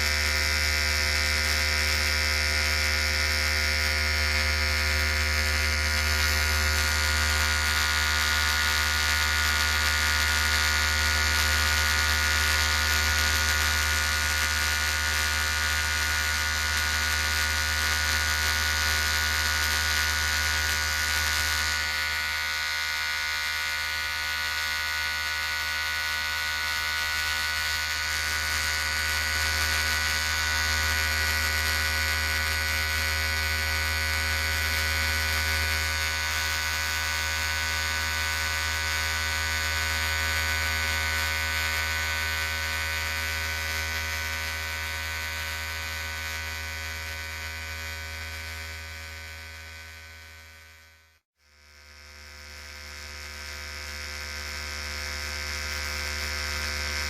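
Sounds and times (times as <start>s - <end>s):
electric hair clipper buzzing: 0.0s - 57.0s.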